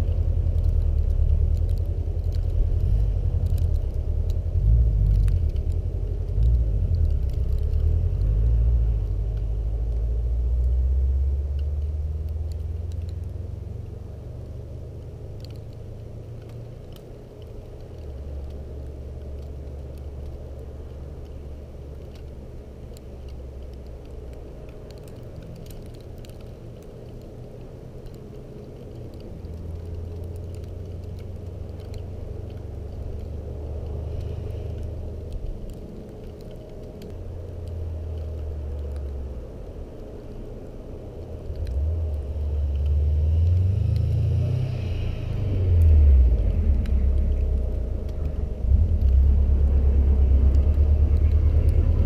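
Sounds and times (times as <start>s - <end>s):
car engine rumbling and revving: 0.0s - 52.0s.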